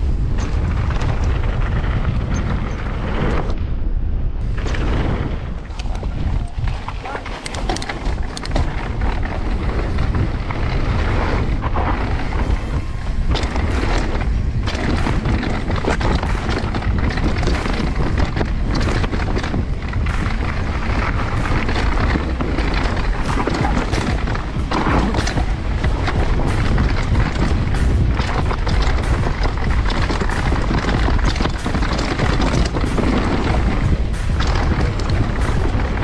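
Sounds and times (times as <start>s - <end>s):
bike clattering on rough ground: 0.0s - 3.5s, 4.5s - 36.0s
wind buffeting microphone: 0.0s - 36.0s.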